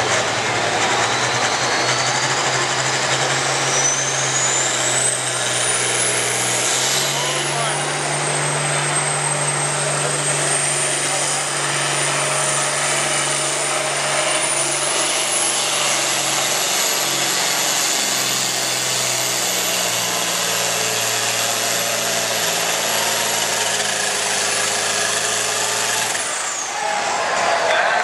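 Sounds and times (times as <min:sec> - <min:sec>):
tractor engine running hard: 0:00.0 - 0:28.0.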